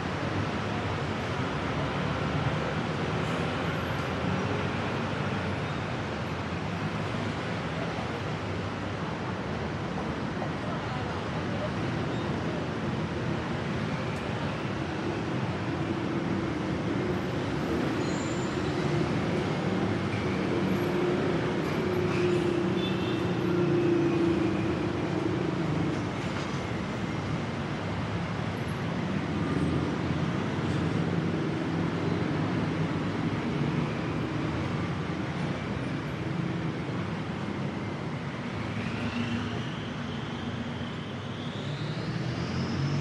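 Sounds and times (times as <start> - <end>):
passing vehicles rumbling: 0.0 - 43.0.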